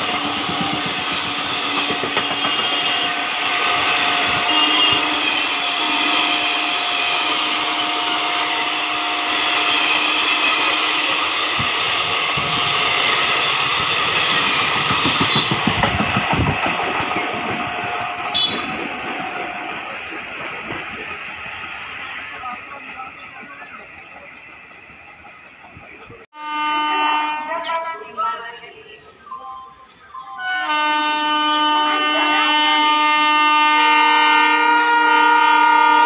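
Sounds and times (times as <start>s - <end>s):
train wheels rushing on rail: 0.0s - 26.3s, 29.8s - 36.0s.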